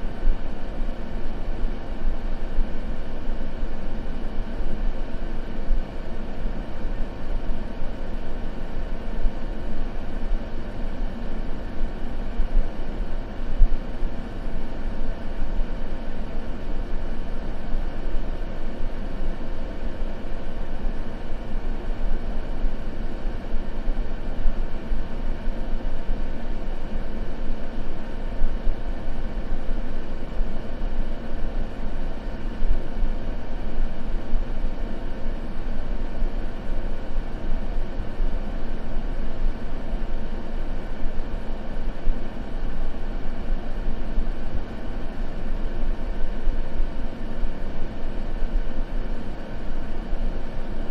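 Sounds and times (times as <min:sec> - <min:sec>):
faint steady hum tones: 0:00.0 - 0:50.9
low white-noise rumble: 0:00.0 - 0:50.9.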